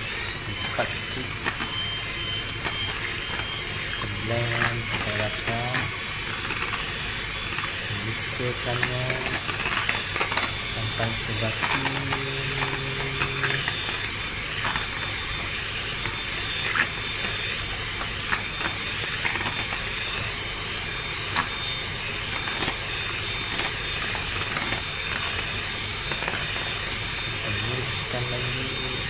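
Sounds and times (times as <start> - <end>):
electric hand mixer whisking: 0.0 - 29.0.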